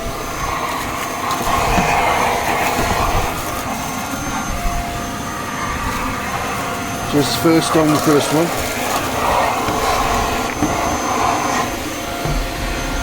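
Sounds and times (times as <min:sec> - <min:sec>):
thin high motor whine: 0:00.0 - 0:13.0
vacuum cleaner running: 0:00.0 - 0:13.0.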